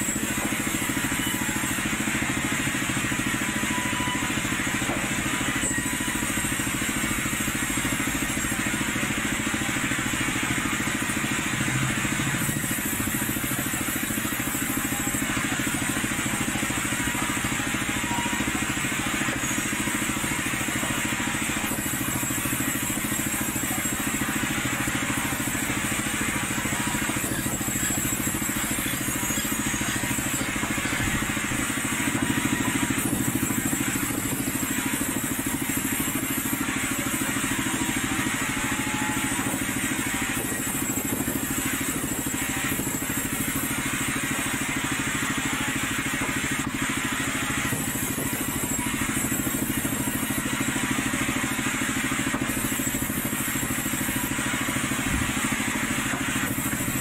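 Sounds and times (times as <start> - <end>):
sawmill saws running: 0.0 - 57.0.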